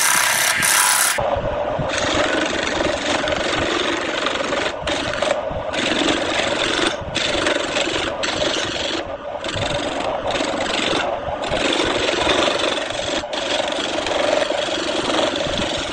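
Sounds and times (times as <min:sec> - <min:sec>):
turning tool scraping wood: 0:00.0 - 0:01.2, 0:01.9 - 0:15.9
lathe humming: 0:00.0 - 0:01.3, 0:01.9 - 0:15.9.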